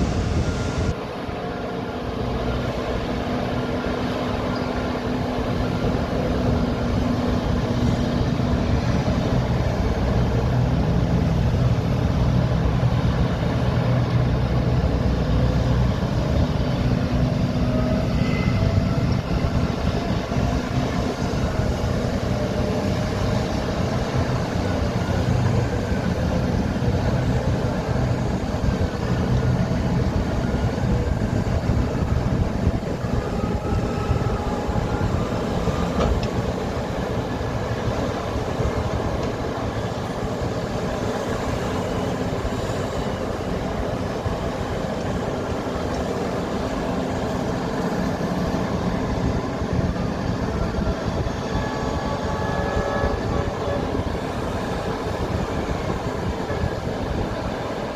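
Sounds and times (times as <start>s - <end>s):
excavator diesel engines rumbling: 0.0s - 57.9s.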